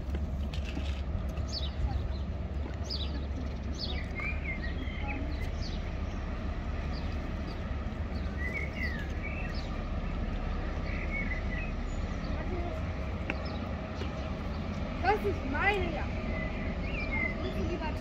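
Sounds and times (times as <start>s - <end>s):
steady low rumble: 0.0s - 18.0s
small birds chirping: 0.6s - 18.0s.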